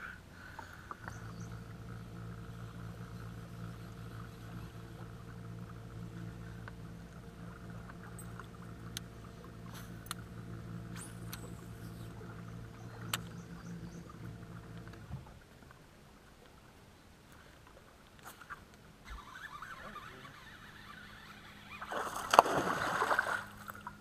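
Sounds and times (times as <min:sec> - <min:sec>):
electric boat motor humming: 0:00.0 - 0:24.0.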